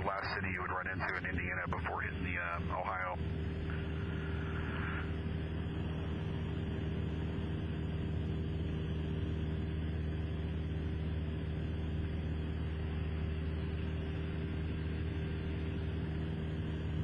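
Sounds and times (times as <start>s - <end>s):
aircraft engine and propeller droning: 0.0s - 17.0s.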